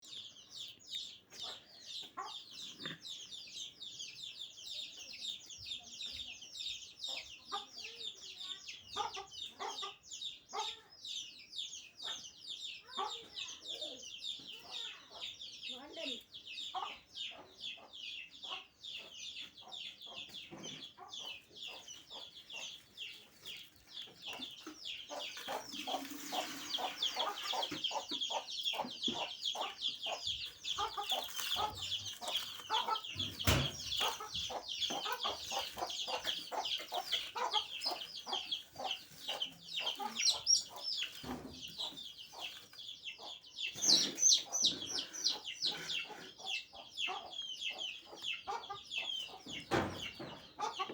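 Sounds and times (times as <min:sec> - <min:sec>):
chickens peeping and clucking: 0:00.0 - 0:50.9.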